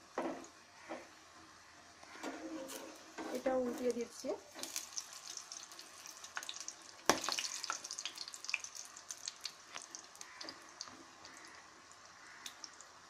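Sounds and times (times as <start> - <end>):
frying in hot oil: 0.0 - 13.0.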